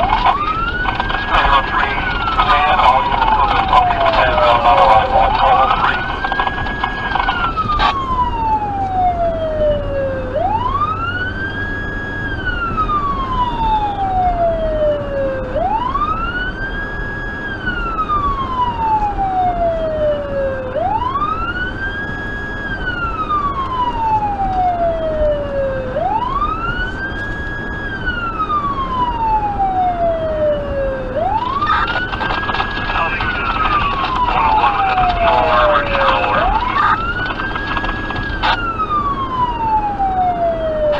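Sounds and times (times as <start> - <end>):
electronic siren wailing: 0.0 - 40.9
road noise inside car: 0.0 - 40.9.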